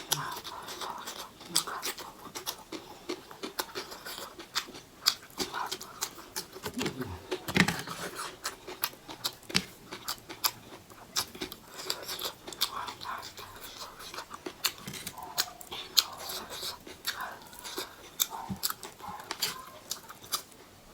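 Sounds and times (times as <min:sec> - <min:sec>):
chewing and lip smacks: 0:00.0 - 0:20.8.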